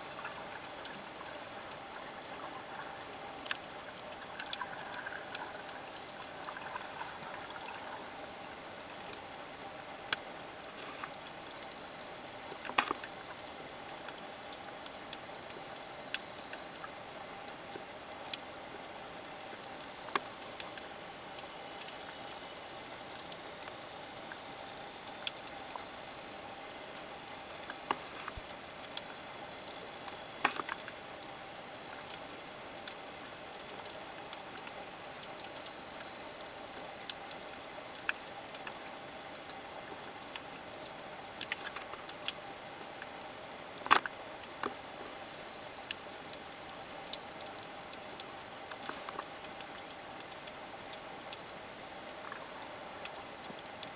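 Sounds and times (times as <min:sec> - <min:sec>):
underwater clicks and crackles: 0:00.0 - 0:53.9.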